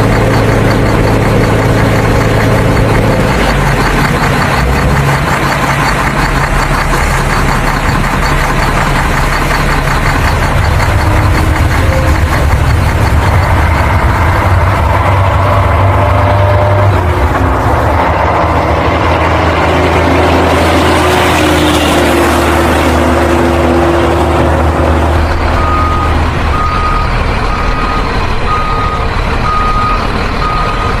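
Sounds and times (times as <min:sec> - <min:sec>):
heavy vehicle engine chugging: 0:00.0 - 0:31.0.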